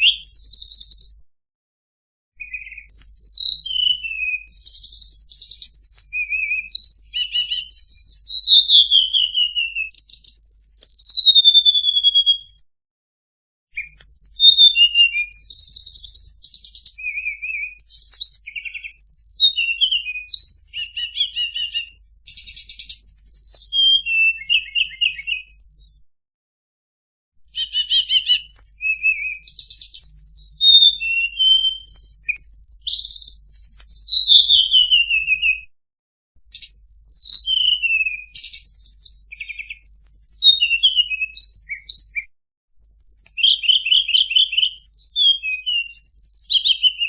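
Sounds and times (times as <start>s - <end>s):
bird song whistles and trills: 0.0s - 1.3s, 2.4s - 12.6s, 13.7s - 26.1s, 27.5s - 35.7s, 36.5s - 47.0s.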